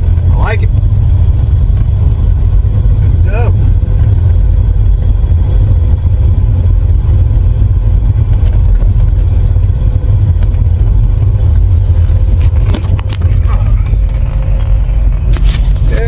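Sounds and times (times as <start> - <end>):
car engine rumble: 0.0 - 16.0
road noise: 0.0 - 16.0.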